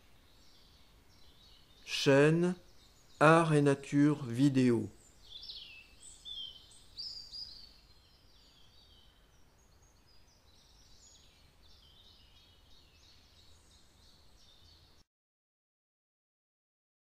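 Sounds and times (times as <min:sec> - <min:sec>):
songbirds chirping and warbling: 0:00.0 - 0:15.0.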